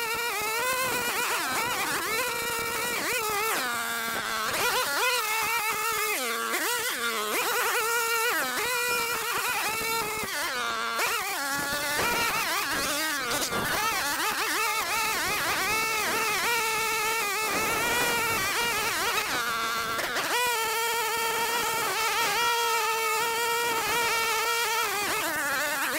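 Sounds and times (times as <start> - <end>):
string trimmer engine revving: 0.0 - 25.9.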